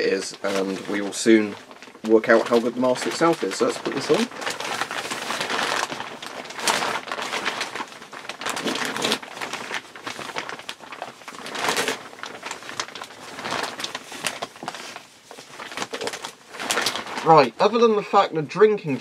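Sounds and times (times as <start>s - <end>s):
plastic poncho crinkling: 0.0s - 19.0s.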